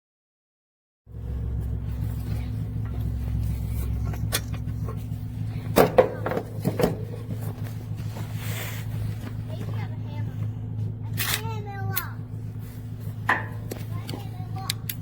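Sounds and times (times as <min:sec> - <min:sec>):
vehicle engine idling: 0:01.1 - 0:15.0.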